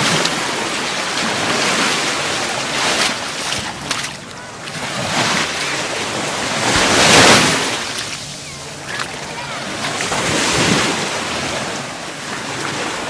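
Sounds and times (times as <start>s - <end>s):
surf washing on sandy beach: 0.0s - 13.0s.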